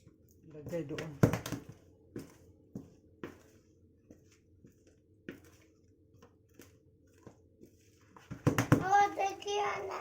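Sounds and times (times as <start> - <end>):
utensil stirring in a bowl: 0.0 - 9.5.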